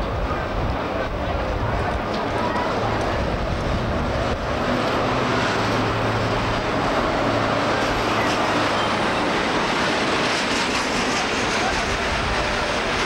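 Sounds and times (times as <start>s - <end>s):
broad rumbling noise: 0.0s - 13.0s
train engine humming: 0.0s - 13.0s.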